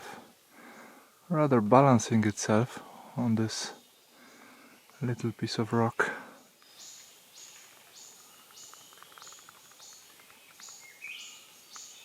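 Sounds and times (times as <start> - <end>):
insect lower chirping call: 0.2 - 12.0.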